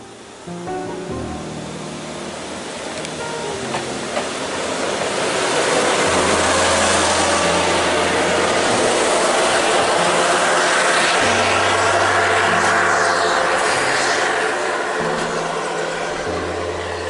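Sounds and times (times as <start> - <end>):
diesel railcar rumbling past: 1.9 - 17.0.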